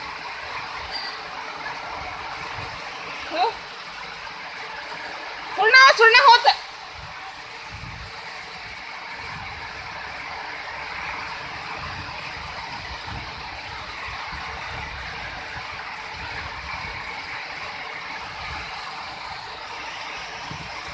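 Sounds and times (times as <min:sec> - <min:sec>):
steady hiss: 0:00.0 - 0:20.9
wind buffeting microphone: 0:01.8 - 0:03.4, 0:05.6 - 0:20.9.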